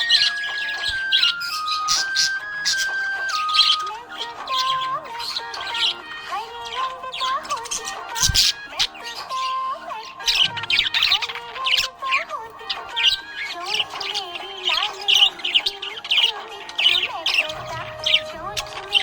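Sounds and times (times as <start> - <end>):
budgerigar chirping and warbling: 0.0 - 19.0.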